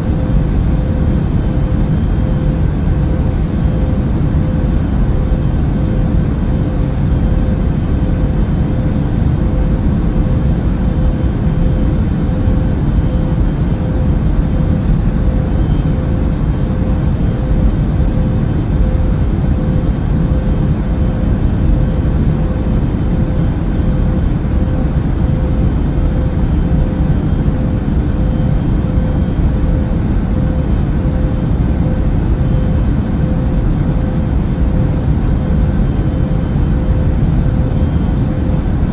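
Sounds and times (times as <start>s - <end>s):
airplane cabin rumble: 0.0s - 38.9s
faint steady hum: 0.0s - 38.9s.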